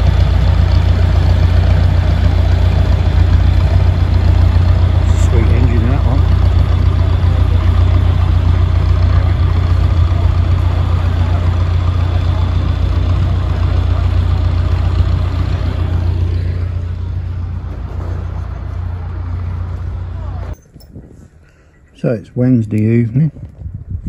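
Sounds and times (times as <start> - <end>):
diesel engine humming: 0.0 - 20.6.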